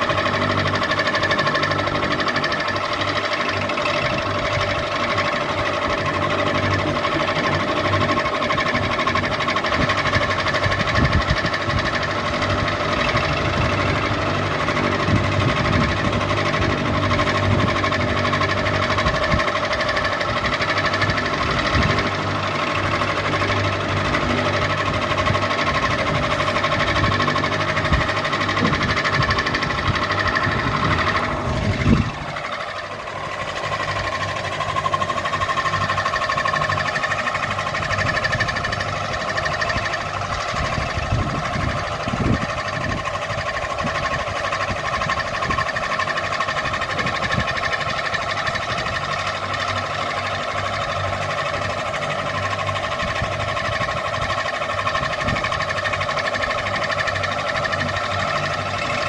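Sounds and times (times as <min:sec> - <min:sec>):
fan rattling and knocking: 0:00.0 - 0:59.0.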